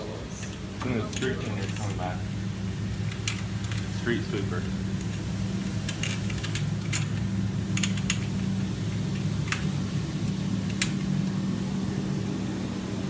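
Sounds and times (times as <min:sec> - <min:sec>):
street sweeper engine hum: 0:00.0 - 0:13.0.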